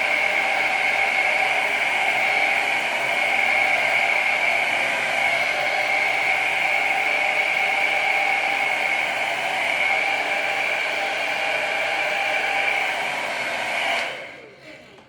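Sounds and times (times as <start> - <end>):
hair dryer blowing: 0.0 - 14.5.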